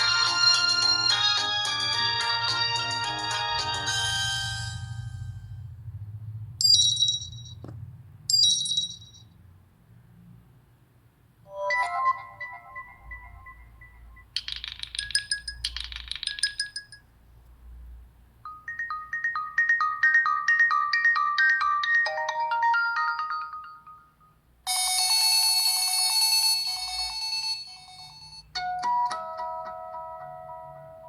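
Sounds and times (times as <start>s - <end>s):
phone ringtones and alert tones: 0.0s - 5.7s, 6.6s - 7.7s, 8.3s - 9.3s, 11.5s - 17.0s, 18.5s - 30.9s.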